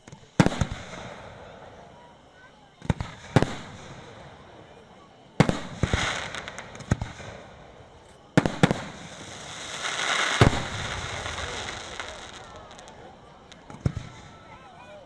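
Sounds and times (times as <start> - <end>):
fireworks booming: 0.0 - 2.1, 2.8 - 14.6
fireworks hissing trail: 0.0 - 15.0.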